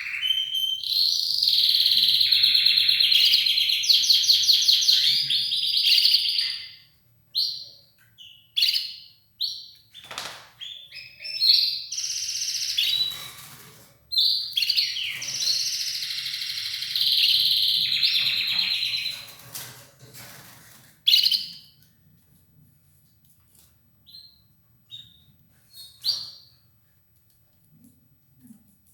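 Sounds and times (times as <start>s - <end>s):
canary trilling and chirping: 0.0s - 21.9s, 23.5s - 26.8s.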